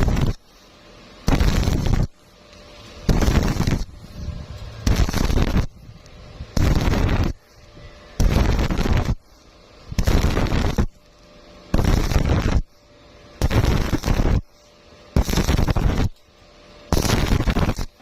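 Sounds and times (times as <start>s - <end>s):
welding arc crackling: 0.0s - 18.0s.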